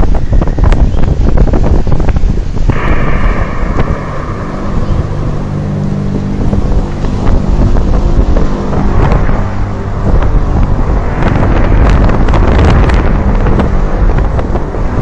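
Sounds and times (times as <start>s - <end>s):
low steady hum: 0.0s - 15.0s
wind buffeting microphone: 0.0s - 15.0s
drawn-out droning tone: 2.7s - 15.0s.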